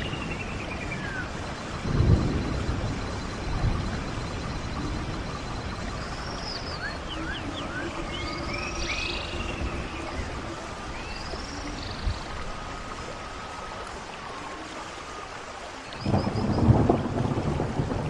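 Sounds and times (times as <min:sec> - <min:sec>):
birds chirping: 0:00.0 - 0:17.0
stream water rushing: 0:00.0 - 0:18.0.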